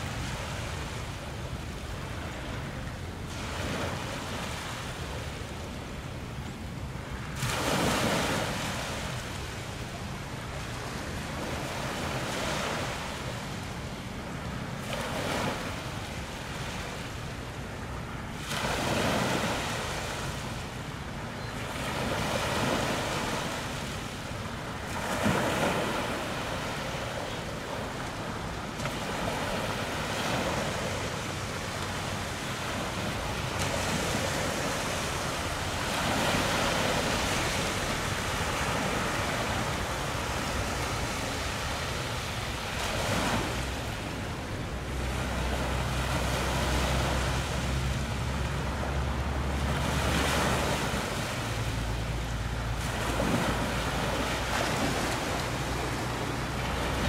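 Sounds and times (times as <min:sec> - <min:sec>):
sea waves rushing and splashing: 0:00.0 - 0:57.0.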